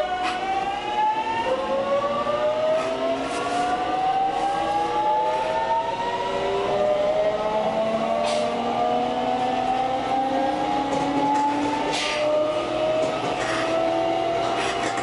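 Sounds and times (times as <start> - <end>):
train motors whining rising pitch: 0.0 - 15.0
train running rumble: 0.0 - 15.0.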